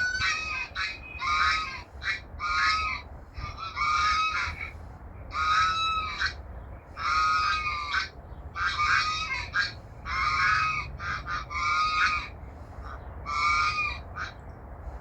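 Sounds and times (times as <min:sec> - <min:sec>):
geese honking: 0:00.0 - 0:14.4.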